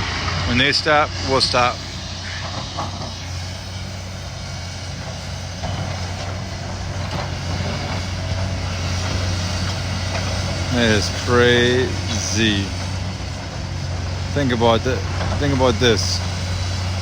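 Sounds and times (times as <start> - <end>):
diesel machinery engine drone: 0.0 - 17.0.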